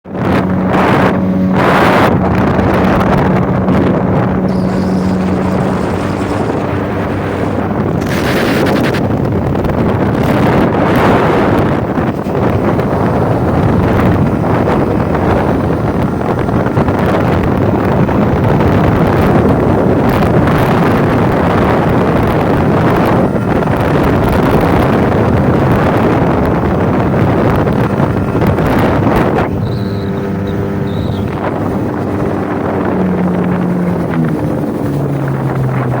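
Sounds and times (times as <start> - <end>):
outboard motor at full throttle: 0.0 - 36.0
wind buffeting microphone: 0.0 - 36.0.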